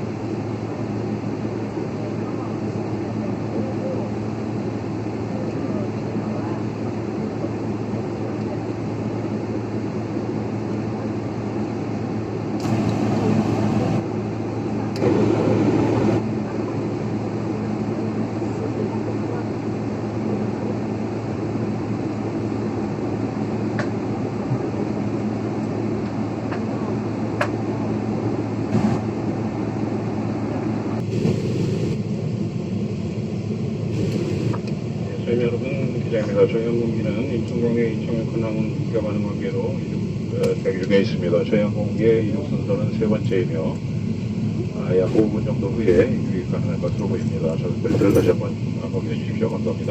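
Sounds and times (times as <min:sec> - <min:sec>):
airliner cabin hum: 0:00.0 - 0:49.9.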